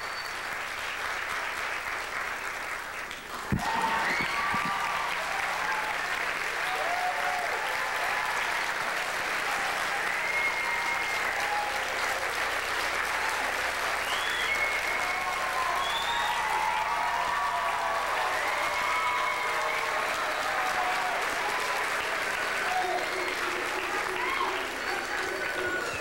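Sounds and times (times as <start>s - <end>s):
audience applauding: 0.0s - 26.0s
audience cheering: 3.0s - 26.0s.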